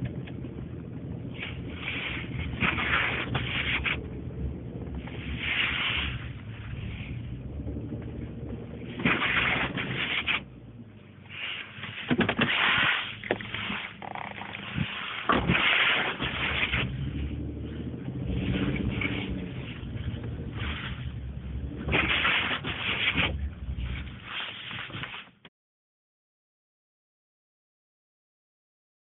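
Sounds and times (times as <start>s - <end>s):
truck engine running: 0.0s - 24.3s
snow scraping against truck: 0.0s - 25.4s.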